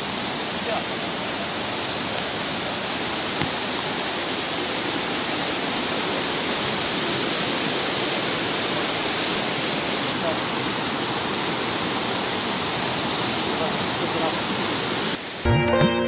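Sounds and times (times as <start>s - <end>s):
stream rushing over rocks: 0.0s - 15.5s.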